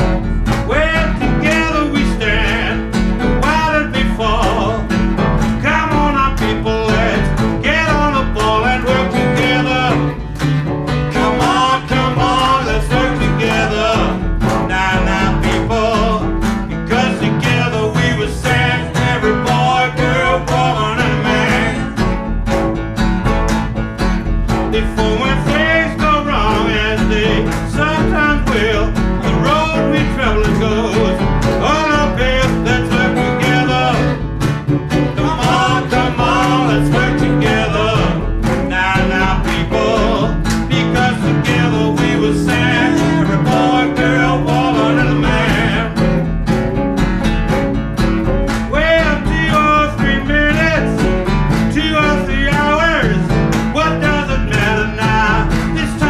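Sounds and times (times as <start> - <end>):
electric guitar: 0.0 - 56.0
live blues band playing: 0.0 - 56.0.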